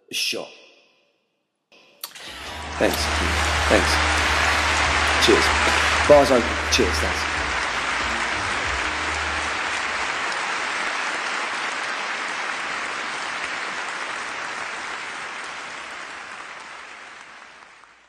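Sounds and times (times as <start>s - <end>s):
audience applauding: 2.1s - 18.0s.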